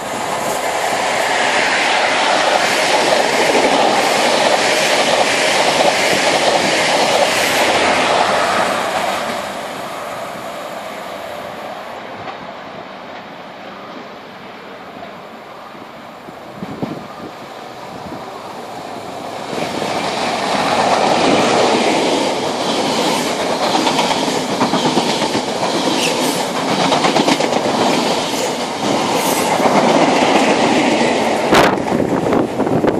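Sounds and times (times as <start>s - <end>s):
train passing at speed: 0.0s - 32.9s.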